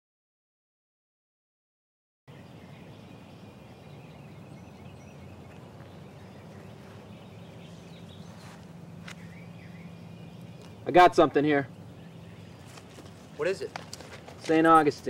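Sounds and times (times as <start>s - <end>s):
low background hum: 2.3s - 15.0s.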